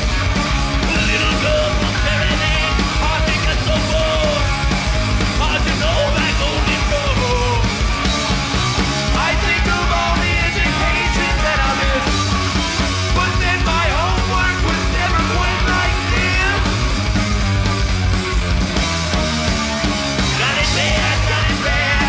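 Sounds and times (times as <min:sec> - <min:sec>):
vocalists singing and shouting: 0:00.0 - 0:17.6, 0:20.0 - 0:22.0
electric bass: 0:00.0 - 0:22.0
heavy rock band playing: 0:00.0 - 0:22.0.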